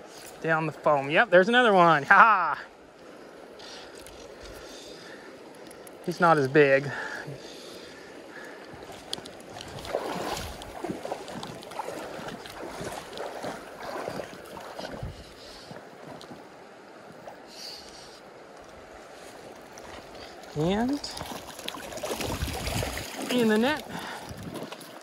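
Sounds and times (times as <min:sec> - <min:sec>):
creek water running over stones: 0:00.0 - 0:25.0
water sloshing: 0:02.8 - 0:25.0.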